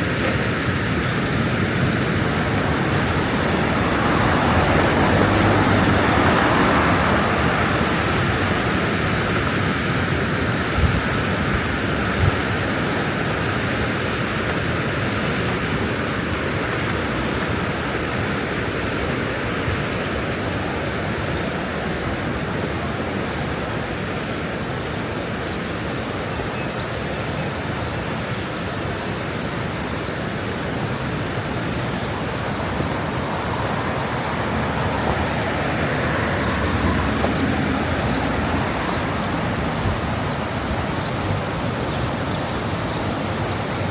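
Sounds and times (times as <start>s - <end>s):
fast-flowing water rushing: 0.0s - 43.9s.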